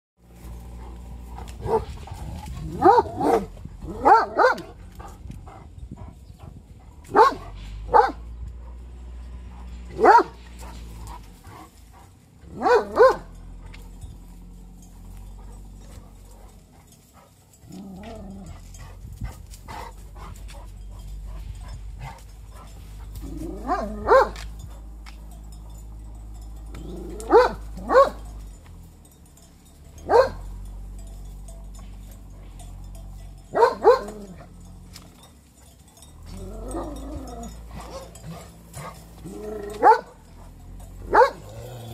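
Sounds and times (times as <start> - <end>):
large dogs barking: 0.4 - 28.8, 29.9 - 41.9.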